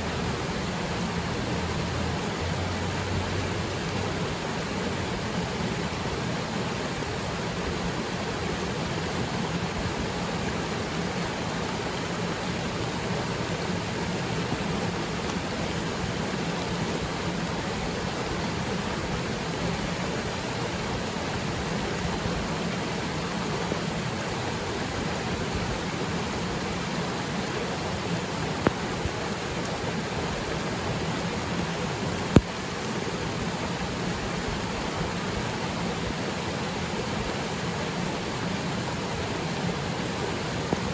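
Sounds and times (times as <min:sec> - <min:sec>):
rain falling on water: 0:00.0 - 0:40.9
waterfall rushing: 0:00.0 - 0:40.9.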